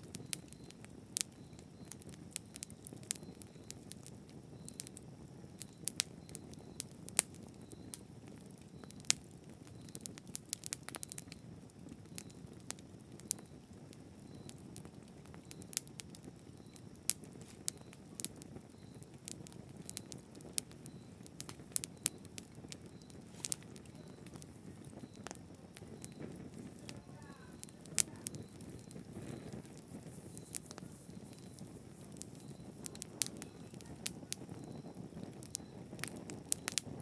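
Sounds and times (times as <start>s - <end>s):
burning wood crackling and popping: 0.0s - 37.0s
low rush of flame: 0.0s - 37.0s.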